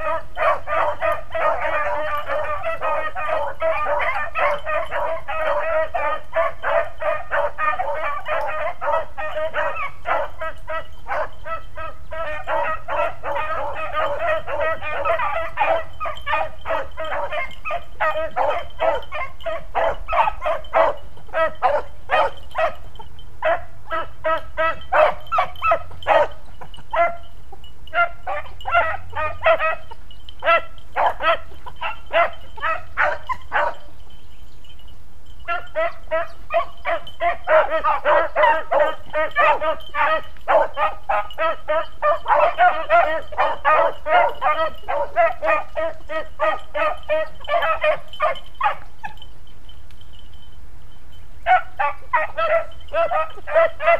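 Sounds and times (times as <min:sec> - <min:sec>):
beagles baying: 0:00.0 - 0:34.8, 0:35.4 - 0:50.5, 0:51.1 - 0:53.9.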